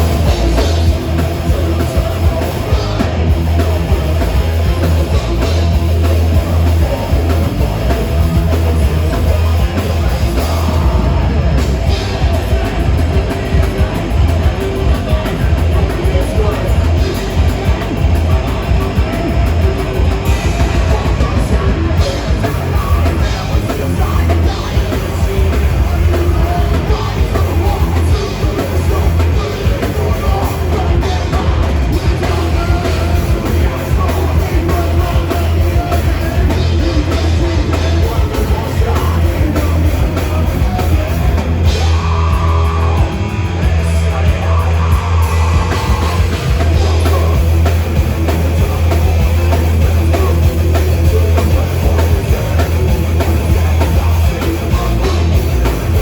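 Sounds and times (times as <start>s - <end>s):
distorted electric guitars: 0.0s - 56.0s
drums: 0.0s - 56.0s
heavy low end: 0.0s - 56.0s.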